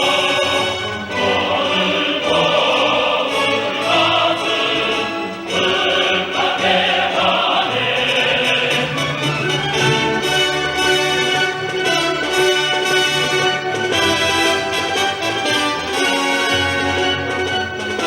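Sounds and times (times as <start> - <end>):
choir singing: 0.0 - 18.0
orchestral accompaniment: 0.0 - 18.0.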